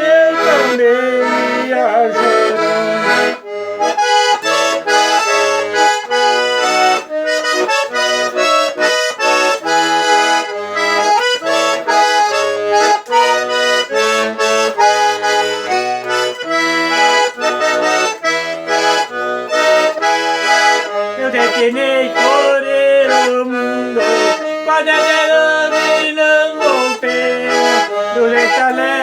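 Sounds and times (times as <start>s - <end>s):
accordion playing: 0.0s - 29.0s.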